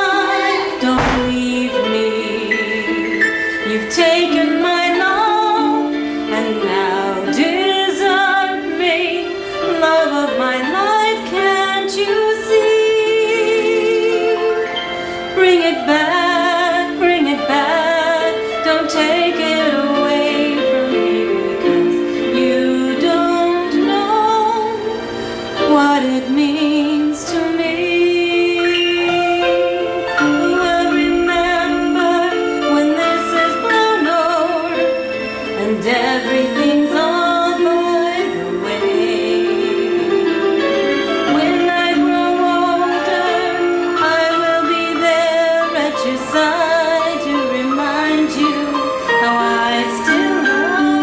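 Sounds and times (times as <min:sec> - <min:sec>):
pop ballad music: 0:00.0 - 0:51.0
wordless singing with vibrato: 0:00.0 - 0:51.0.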